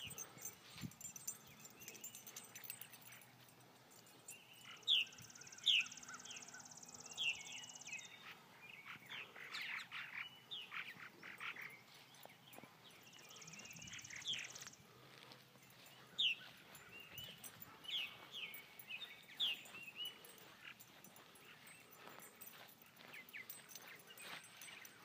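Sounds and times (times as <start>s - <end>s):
birds chirping calls: 0.0s - 25.0s.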